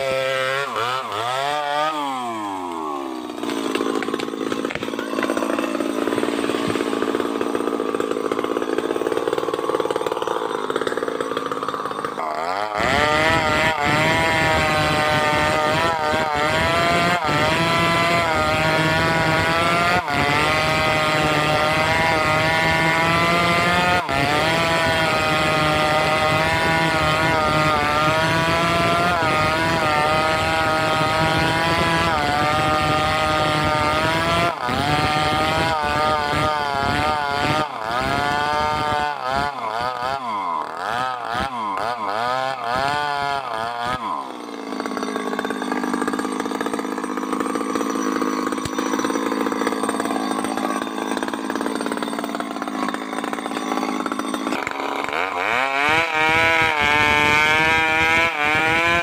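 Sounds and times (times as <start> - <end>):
chainsaw cutting: 0.0 - 59.0.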